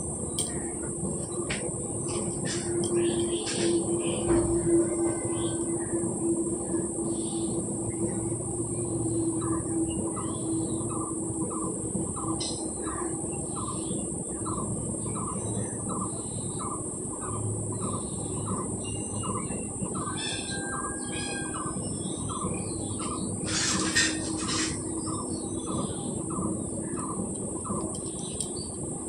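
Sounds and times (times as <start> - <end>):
birds chirping: 0.0 - 29.0
steady background hum: 0.0 - 29.0.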